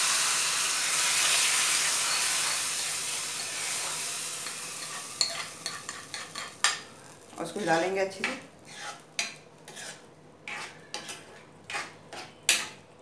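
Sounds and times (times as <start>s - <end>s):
lentils sizzling in hot ghee: 0.0s - 12.8s.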